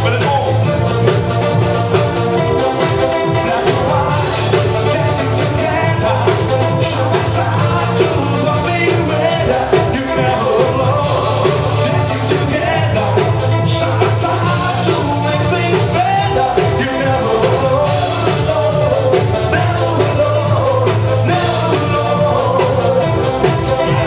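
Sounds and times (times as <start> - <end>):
man singing into microphone: 0.0 - 0.8, 3.0 - 24.0
bass line: 0.0 - 24.0
drum beat: 0.0 - 24.0.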